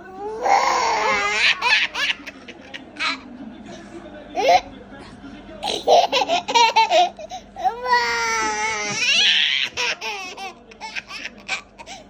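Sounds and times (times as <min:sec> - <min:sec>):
baby laughing: 0:00.2 - 0:03.3, 0:04.4 - 0:04.7, 0:05.6 - 0:12.0.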